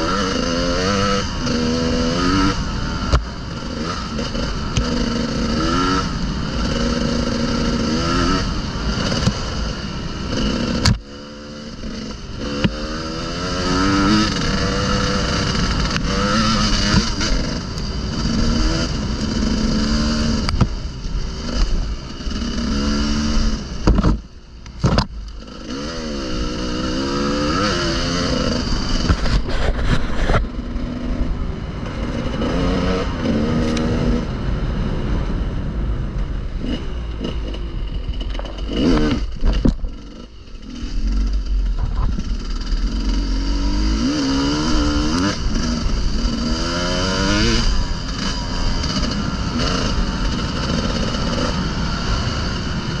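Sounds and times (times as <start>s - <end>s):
motorcycle engine revving: 0.0s - 35.6s, 36.3s - 53.0s.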